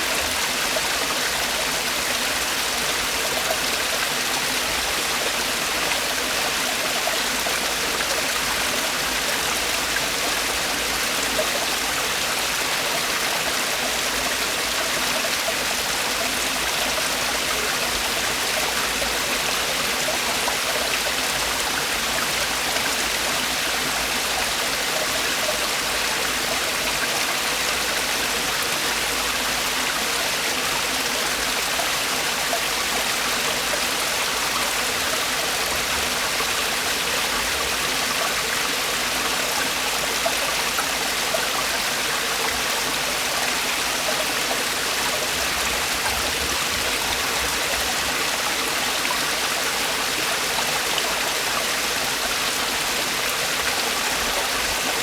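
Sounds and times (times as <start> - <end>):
stream water falling over rocks: 0.0 - 55.0.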